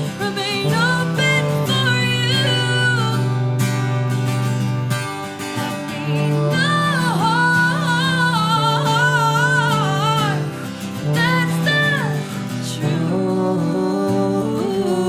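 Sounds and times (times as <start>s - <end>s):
wavering melody line: 0.0s - 12.3s
acoustic guitar: 0.0s - 15.0s.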